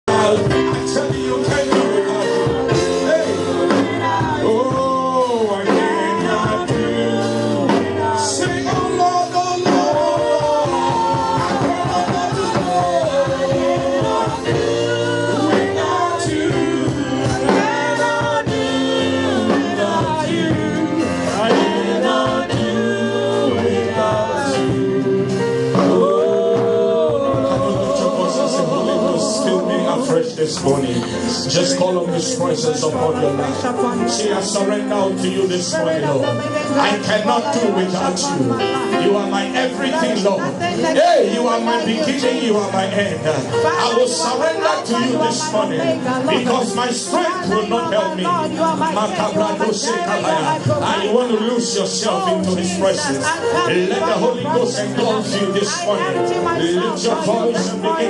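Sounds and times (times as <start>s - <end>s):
gospel singing with accompaniment: 0.0s - 58.0s.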